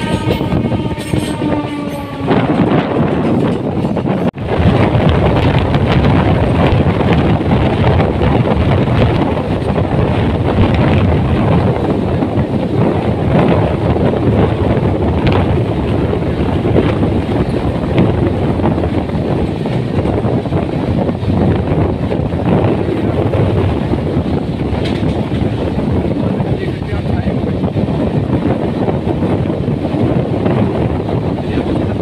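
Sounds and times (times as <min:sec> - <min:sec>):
train rumbling at speed: 0:00.0 - 0:32.0
wind rushing over microphone: 0:00.0 - 0:32.0.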